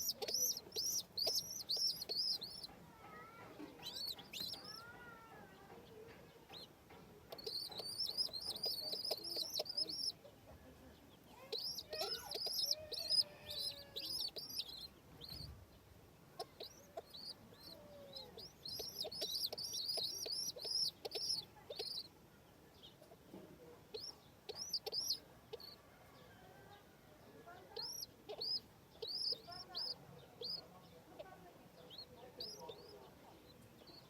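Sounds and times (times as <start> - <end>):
chicks peeping: 0.0 - 26.3, 27.3 - 34.0.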